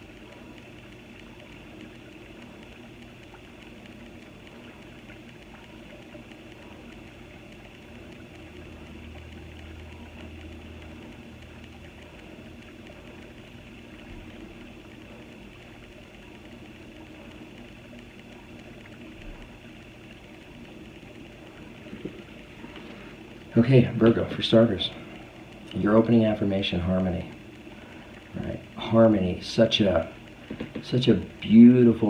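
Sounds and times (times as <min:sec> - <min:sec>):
faint low hum with hiss: 0:00.0 - 0:32.0.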